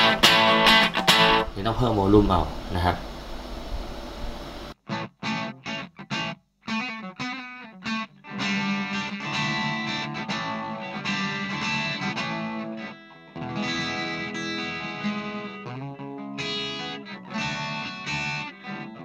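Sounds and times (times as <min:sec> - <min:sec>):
electric guitar chords with slight distortion: 0:00.0 - 0:19.0.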